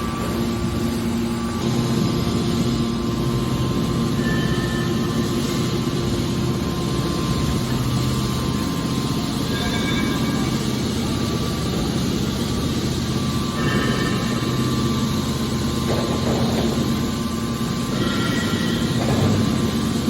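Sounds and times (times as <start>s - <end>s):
baler machine drone: 0.0s - 20.0s.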